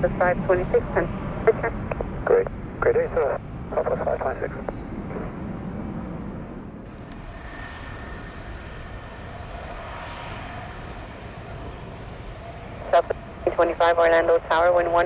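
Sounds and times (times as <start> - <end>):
high turbine whine: 0.0 - 15.0
jet engines running: 0.0 - 15.0.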